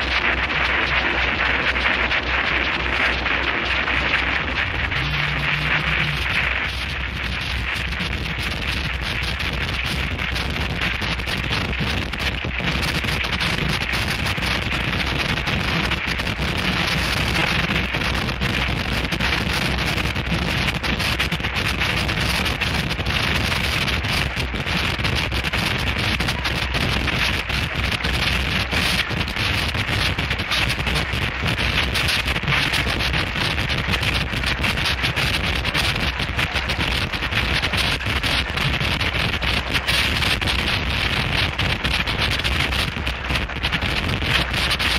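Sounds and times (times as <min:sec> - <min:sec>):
harsh noise music distorted static: 0:00.0 - 0:44.9.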